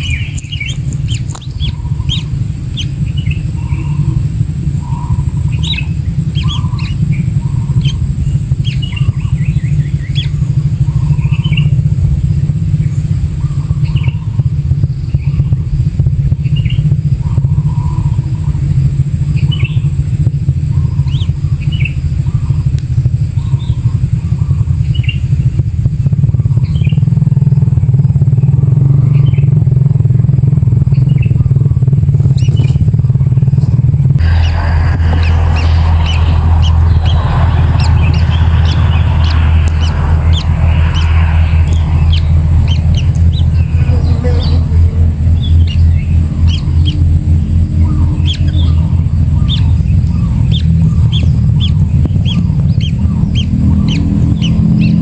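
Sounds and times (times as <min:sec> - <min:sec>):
low motor drone: 0:00.0 - 0:55.0.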